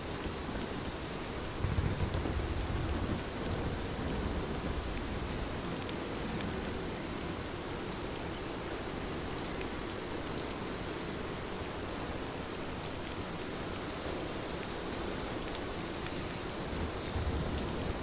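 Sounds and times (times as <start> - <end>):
heavy rain falling: 0.3 - 18.0.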